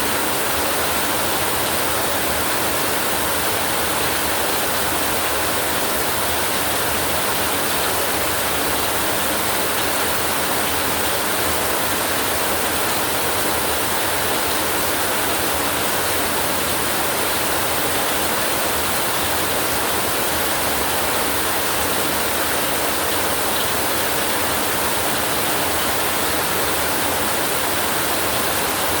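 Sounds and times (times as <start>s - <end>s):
heavy rain falling: 0.2s - 29.0s.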